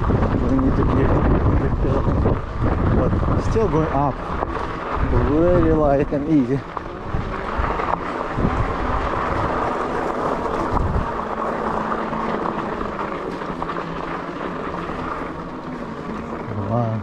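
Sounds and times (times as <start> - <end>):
electric bike running: 0.0 - 17.0
tyres rolling over gravel: 0.0 - 17.0
wind on microphone: 0.0 - 17.0.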